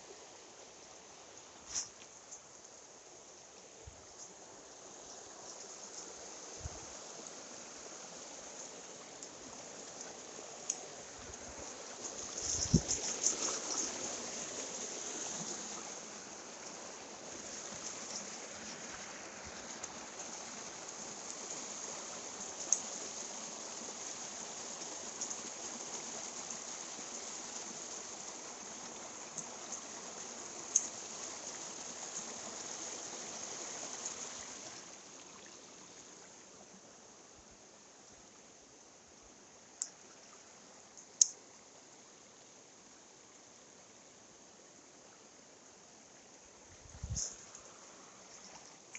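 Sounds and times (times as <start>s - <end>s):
stream water running: 0.0s - 48.9s.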